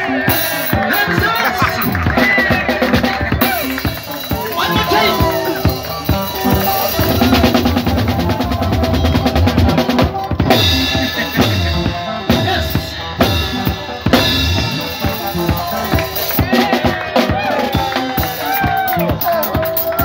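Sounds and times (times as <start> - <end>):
fast drum strokes: 0.0 - 20.0
guitar: 0.0 - 20.0
live band playing: 0.0 - 20.0.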